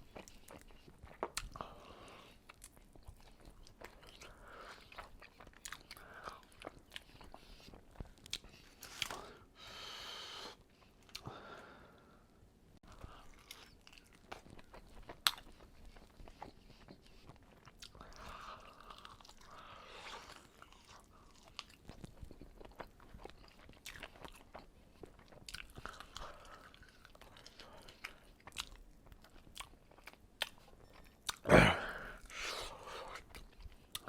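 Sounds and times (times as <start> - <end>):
chewing and crunching: 0.0 - 9.3, 12.8 - 31.5, 32.2 - 34.0.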